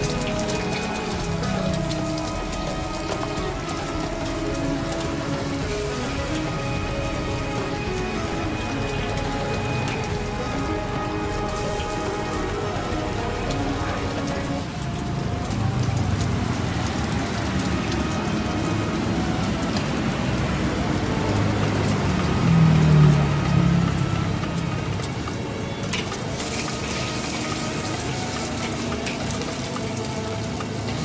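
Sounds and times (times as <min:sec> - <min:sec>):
egg sizzling in hot oil: 0:00.0 - 0:31.0.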